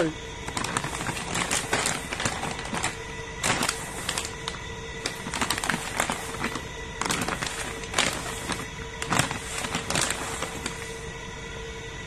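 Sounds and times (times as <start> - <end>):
plastic bag crinkling: 0.4 - 11.1.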